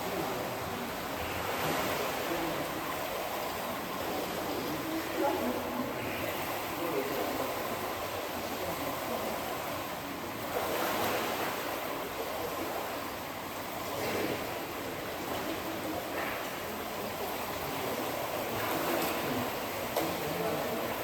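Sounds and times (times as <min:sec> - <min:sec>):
pool water splashing: 0:00.0 - 0:21.0.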